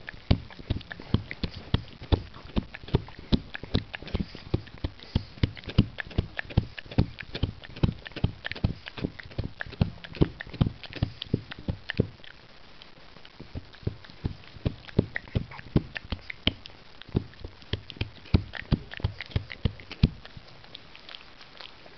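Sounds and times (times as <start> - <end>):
dog chewing a chew stick: 0.0 - 21.9.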